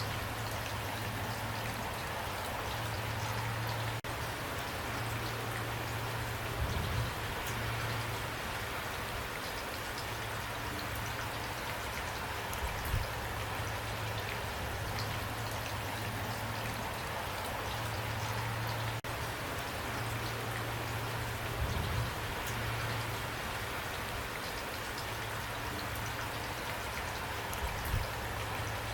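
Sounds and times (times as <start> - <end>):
rain falling: 0.0 - 28.9
raindrops ticking: 0.0 - 28.9.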